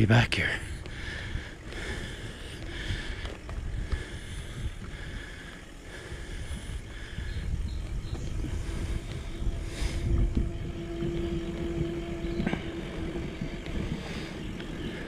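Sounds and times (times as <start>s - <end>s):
bike rolling on pavement: 0.0s - 15.0s
wind buffeting microphone: 0.0s - 15.0s
faint steady hum: 0.1s - 15.0s.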